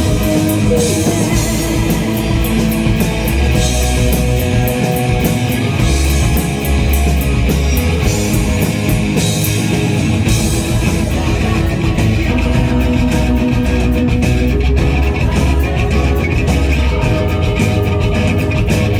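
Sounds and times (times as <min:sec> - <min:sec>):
rock band playing live: 0:00.0 - 0:18.9.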